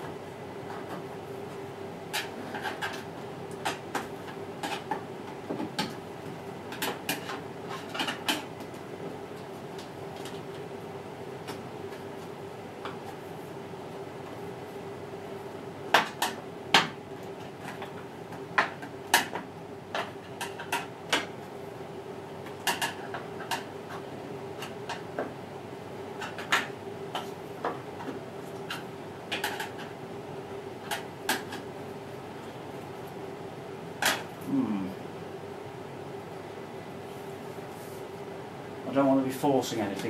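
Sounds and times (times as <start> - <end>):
faint hum: 0.0 - 40.0.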